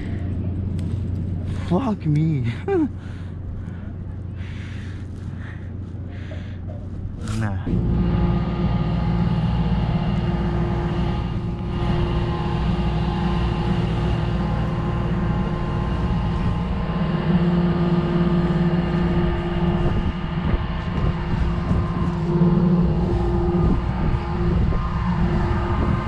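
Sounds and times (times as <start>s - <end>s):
tugboat diesel engine drone: 0.0s - 26.0s.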